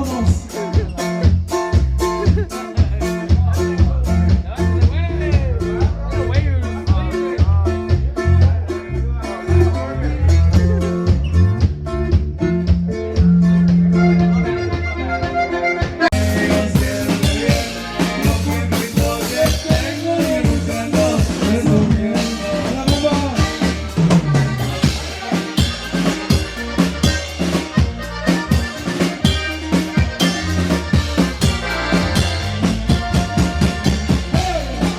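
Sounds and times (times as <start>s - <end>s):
bass line and melody: 0.0s - 34.9s
drum kit beat with cymbals: 0.0s - 34.9s.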